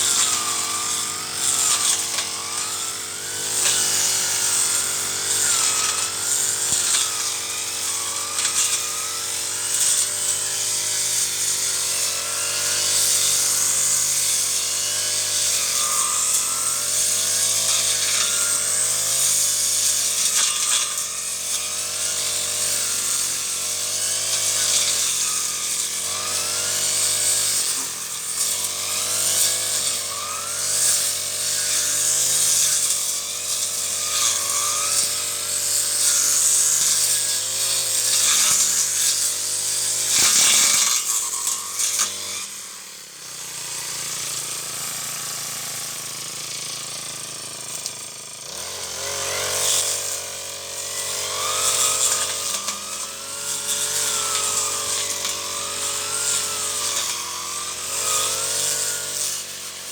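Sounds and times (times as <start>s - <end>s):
brush cutter engine: 0.0s - 59.9s.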